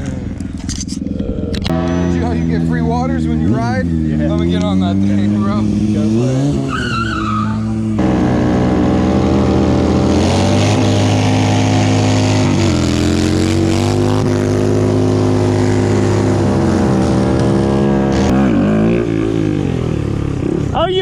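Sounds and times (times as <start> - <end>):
motorcycle engine at high revs: 0.0 - 6.8, 7.5 - 21.0.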